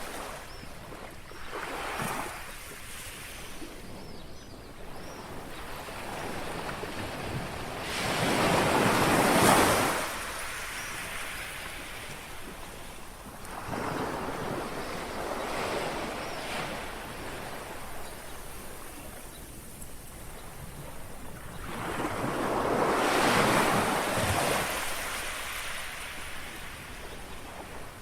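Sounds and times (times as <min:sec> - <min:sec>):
small waves lapping on shore: 0:00.0 - 0:04.1, 0:04.8 - 0:28.0.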